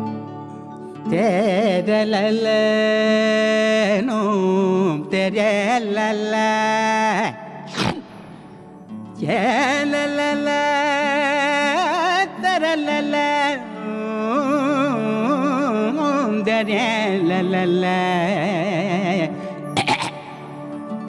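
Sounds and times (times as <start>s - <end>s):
nylon-string acoustic guitar: 0.0s - 21.0s
man singing: 1.0s - 8.2s, 9.1s - 21.0s.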